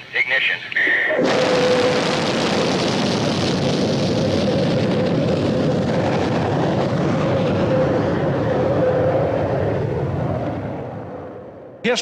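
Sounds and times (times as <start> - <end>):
rocket engine rushing: 1.1 - 11.8.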